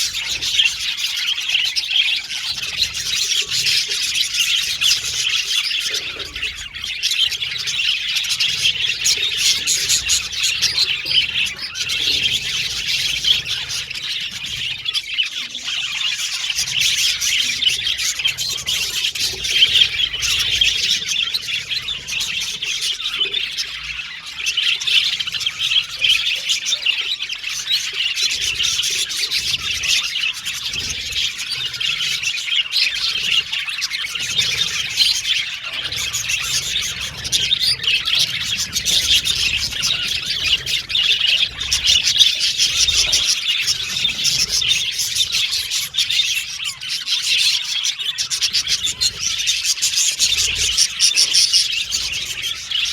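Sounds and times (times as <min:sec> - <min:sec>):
budgerigars chattering and chirping: 0:00.0 - 0:52.9.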